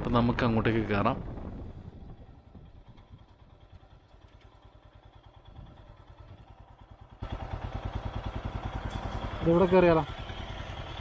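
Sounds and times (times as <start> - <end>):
motorcycle engine ticking over: 2.0 - 11.0.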